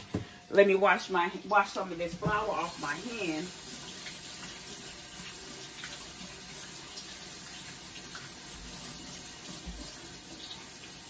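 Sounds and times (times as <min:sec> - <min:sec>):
tap water running: 0:00.0 - 0:11.0.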